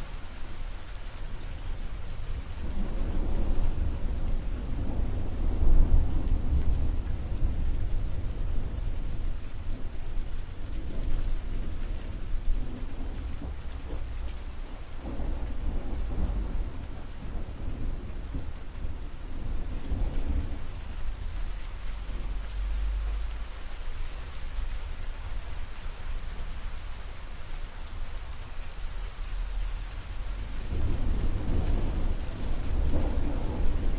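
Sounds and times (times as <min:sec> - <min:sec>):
rain hissing: 0:00.0 - 0:33.9
rolling thunder: 0:00.0 - 0:33.9.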